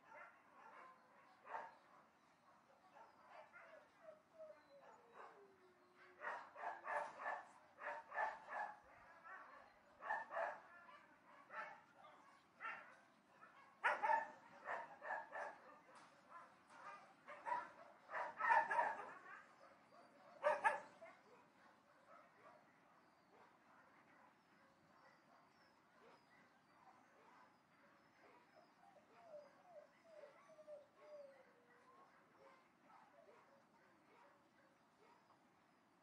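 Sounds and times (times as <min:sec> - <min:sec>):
distant dogs barking: 0:00.0 - 0:35.4.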